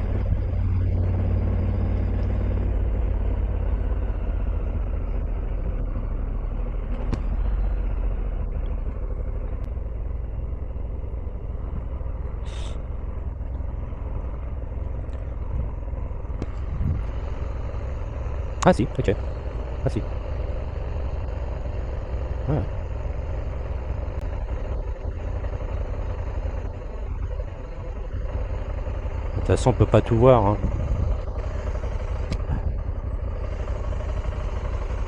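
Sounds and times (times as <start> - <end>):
motorcycle engine and road rumble: 0.0 - 35.0.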